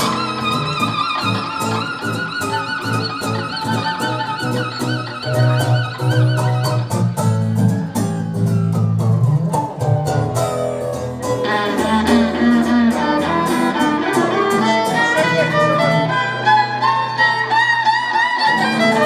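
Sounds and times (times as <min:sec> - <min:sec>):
violin melody: 0:00.0 - 0:07.7, 0:10.5 - 0:19.0
acoustic guitar strumming: 0:00.0 - 0:19.0.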